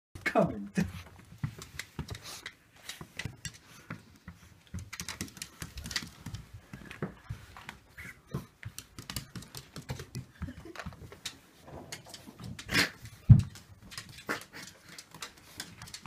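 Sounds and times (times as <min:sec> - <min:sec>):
dog footsteps on wooden floor: 0:00.2 - 0:16.0.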